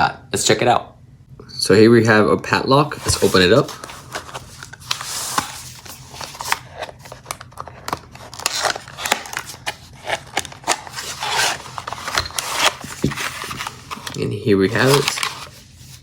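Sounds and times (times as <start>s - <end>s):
cardboard and wrapping rustling: 2.9s - 16.0s
clicks and scrapes of packaging: 3.0s - 16.0s.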